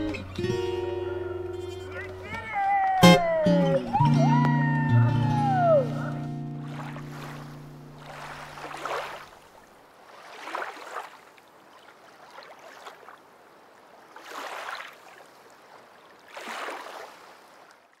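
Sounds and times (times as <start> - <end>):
water washing in swells: 2.0 - 18.0.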